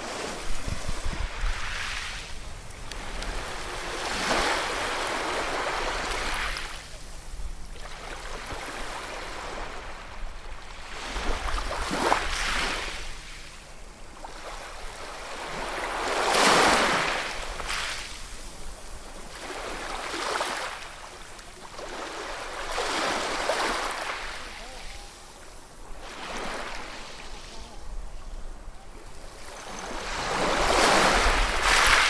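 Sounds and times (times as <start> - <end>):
ocean waves breaking: 0.0 - 13.4, 14.2 - 32.0.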